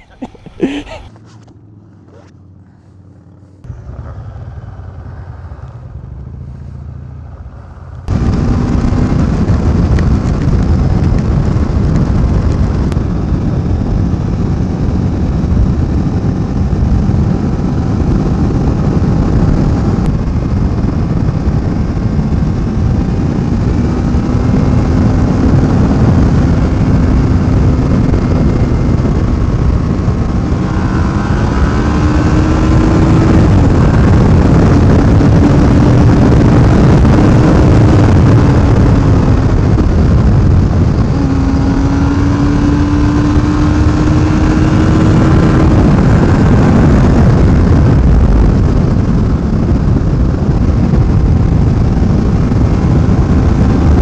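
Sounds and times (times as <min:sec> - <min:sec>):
motorcycle engine: 0:00.0 - 0:54.0
wind rush over microphone: 0:02.1 - 0:54.0.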